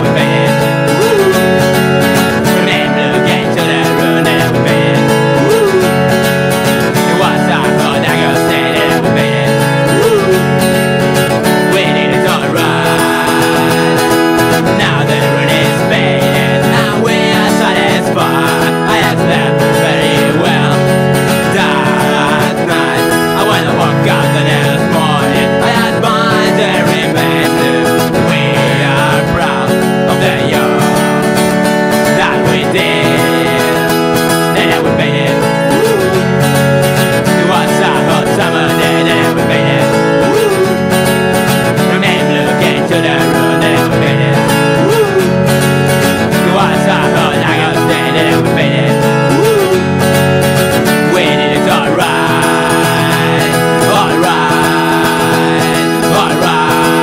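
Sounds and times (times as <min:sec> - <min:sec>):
acoustic punk song: 0:00.0 - 0:57.0
strummed acoustic guitar: 0:00.0 - 0:57.0.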